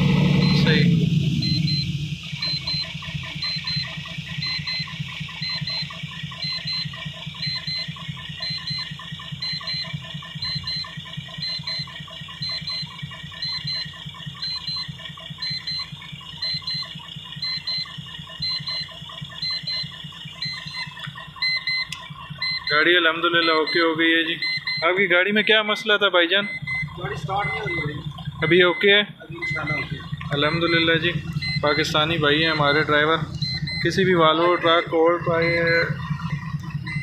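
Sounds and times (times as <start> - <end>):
diesel truck engine idling: 0.0 - 37.0
short electronic beep: 0.4 - 22.8, 23.4 - 25.6, 26.4 - 37.0.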